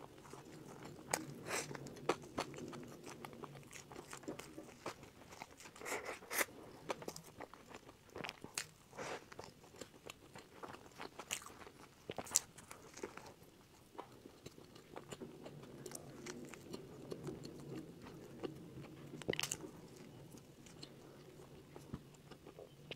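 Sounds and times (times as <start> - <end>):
bread biting and chewing: 0.2 - 20.9.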